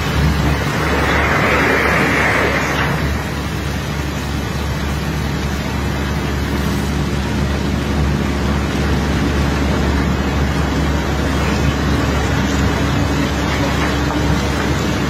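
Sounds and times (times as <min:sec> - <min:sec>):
constant rushing noise: 0:00.0 - 0:15.0
heavy machinery engine humming: 0:00.0 - 0:15.0.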